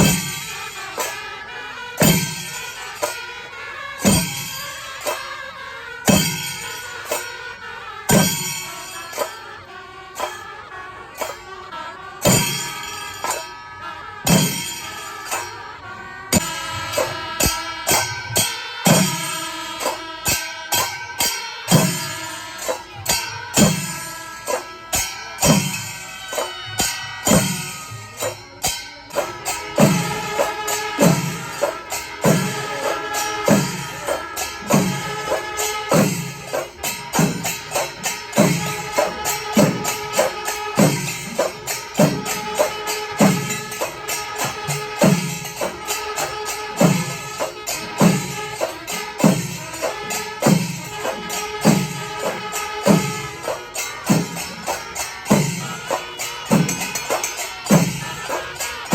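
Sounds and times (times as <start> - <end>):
drum ensemble beating rhythm: 0.0 - 1.2, 2.0 - 3.3, 4.0 - 5.3, 6.1 - 7.4, 8.1 - 9.3, 10.2 - 10.4, 12.2 - 13.4, 14.3 - 15.5, 16.3 - 58.9
hand cymbals clashing: 0.0 - 10.5, 11.1 - 58.9.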